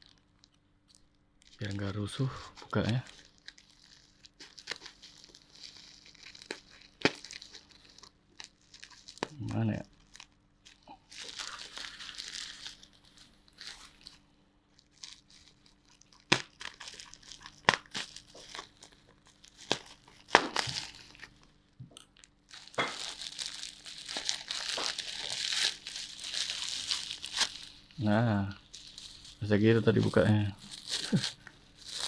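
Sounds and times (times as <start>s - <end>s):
packaging crinkling: 0.0s - 21.6s, 22.2s - 32.0s.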